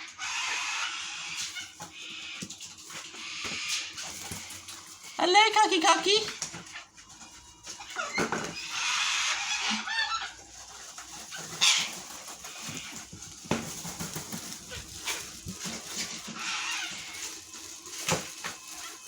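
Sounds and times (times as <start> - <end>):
cockatoos screeching: 0.0 - 5.3, 7.6 - 19.0.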